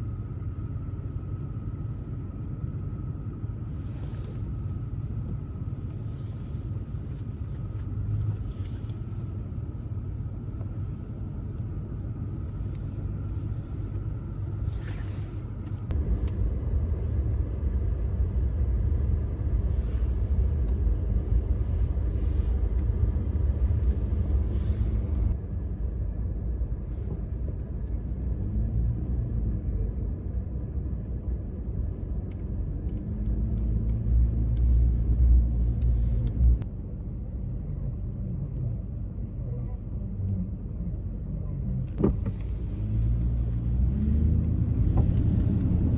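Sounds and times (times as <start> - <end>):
vehicle engine and tyres rumbling: 0.0 - 45.9.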